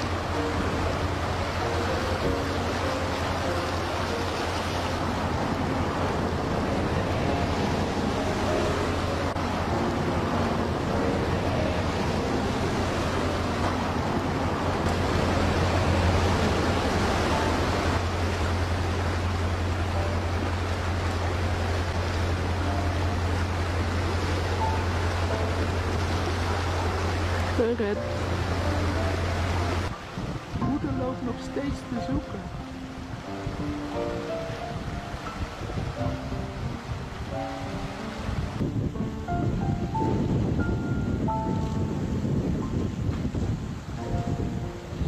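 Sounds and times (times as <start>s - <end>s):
river rushing: 0.0s - 45.0s.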